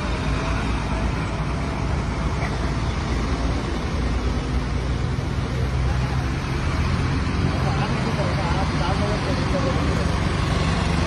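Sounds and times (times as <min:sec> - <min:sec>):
lorries driving past: 0:00.0 - 0:11.0.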